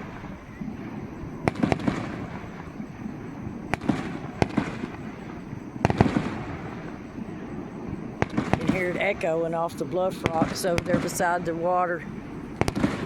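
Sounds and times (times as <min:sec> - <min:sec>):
distant fireworks bursting with echo: 0:00.0 - 0:13.0.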